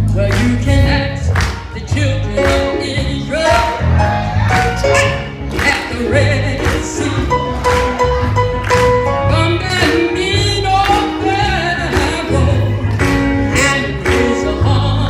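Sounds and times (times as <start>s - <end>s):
gospel choir singing with band: 0.2s - 15.0s.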